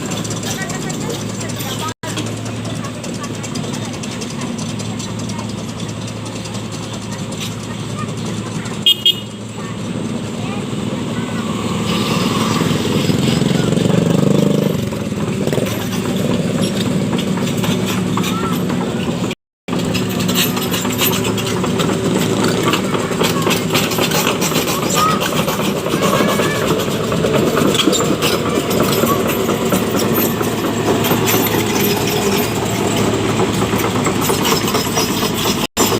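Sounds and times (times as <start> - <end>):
excavator diesel engine passing: 0.0 - 35.9
tracks clattering: 0.0 - 35.9.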